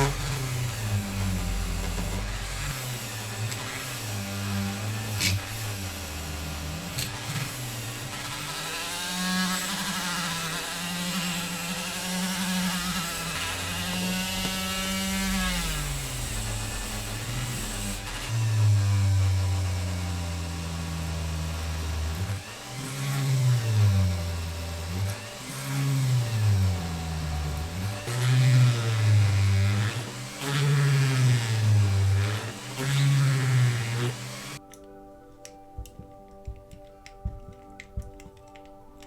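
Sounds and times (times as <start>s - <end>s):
rotary wire brush on metal: 0.0s - 21.0s, 21.6s - 34.6s.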